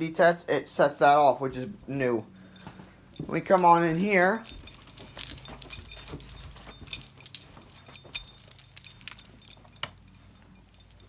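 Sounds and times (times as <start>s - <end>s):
small metal pieces jingling: 1.4s - 11.0s.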